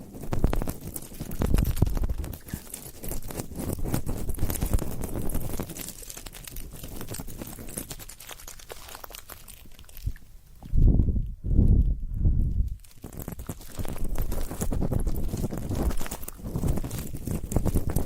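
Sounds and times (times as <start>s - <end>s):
close-miked clicks taps and scratches: 0.0s - 11.1s, 12.8s - 18.0s.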